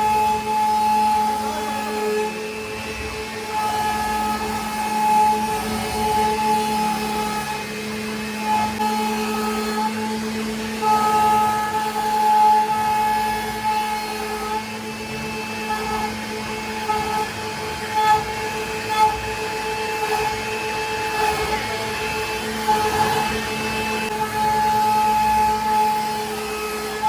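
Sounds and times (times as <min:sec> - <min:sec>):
router cutting wood: 0:00.0 - 0:27.0
router spindle motor whine: 0:00.0 - 0:27.0.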